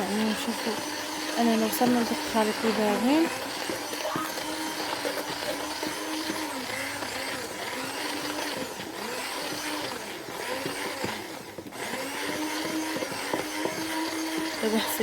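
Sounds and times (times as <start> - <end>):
electric hand mixer whipping batter: 0.0 - 15.0.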